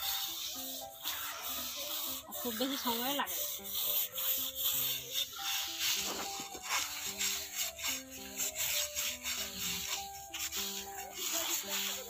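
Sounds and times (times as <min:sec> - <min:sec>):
background music with held notes: 0:00.0 - 0:12.0
sand scrubbing metal pot: 0:00.0 - 0:12.0.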